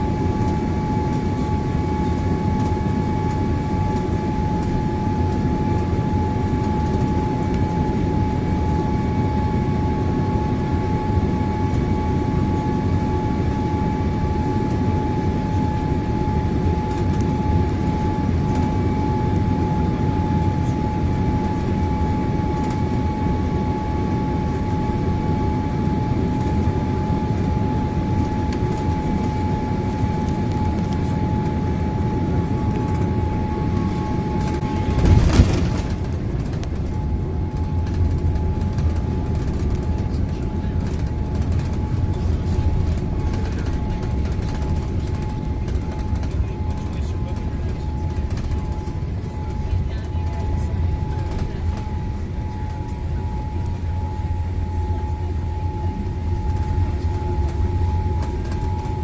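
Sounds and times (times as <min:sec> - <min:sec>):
airliner cabin rumble and whine: 0:00.0 - 0:59.0.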